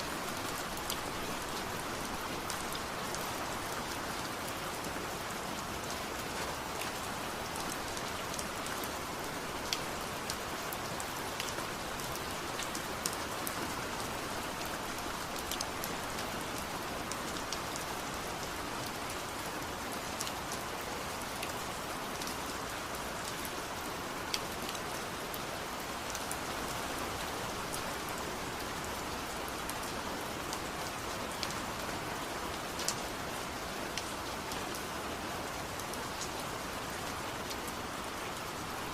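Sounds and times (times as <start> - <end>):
raindrops ticking on surfaces: 0.0 - 38.9
steady rainfall: 0.0 - 38.9.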